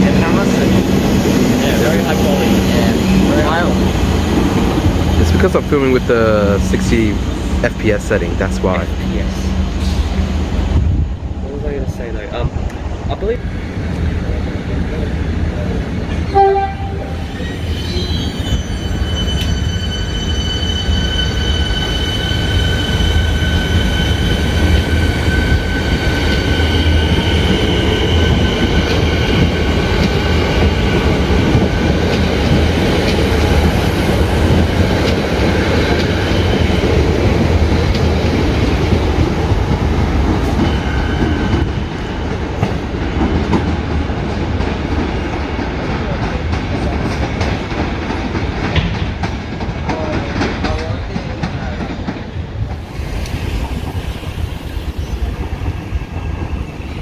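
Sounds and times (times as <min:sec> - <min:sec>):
electric train rumbling past: 0:00.0 - 0:57.0.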